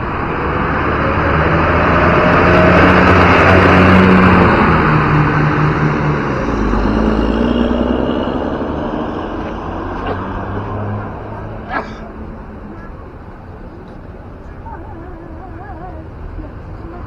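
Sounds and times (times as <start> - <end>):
bus passing by: 0.0 - 17.0.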